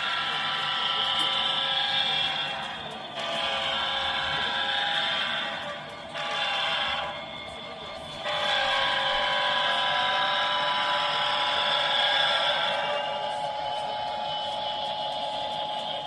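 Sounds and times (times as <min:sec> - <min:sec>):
model train horn through small speaker: 0:00.0 - 0:16.0.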